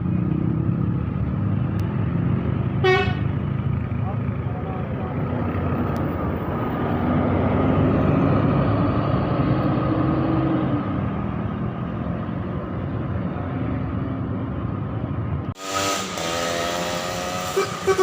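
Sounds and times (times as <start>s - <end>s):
bus engine driving past: 0.0s - 18.0s
road noise: 0.0s - 18.0s.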